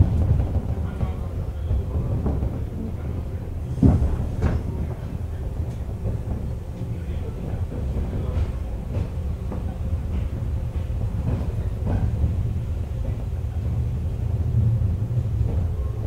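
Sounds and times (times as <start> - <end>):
train car low rumble: 0.0 - 16.0.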